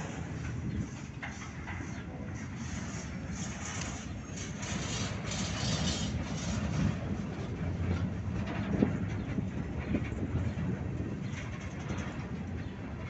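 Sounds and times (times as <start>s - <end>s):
freight car wheels rumbling: 0.0s - 13.0s.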